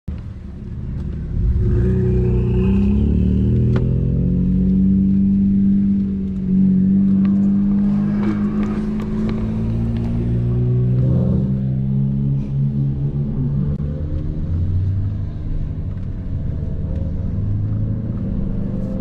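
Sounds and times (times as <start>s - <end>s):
car engine accelerating: 0.1s - 19.0s.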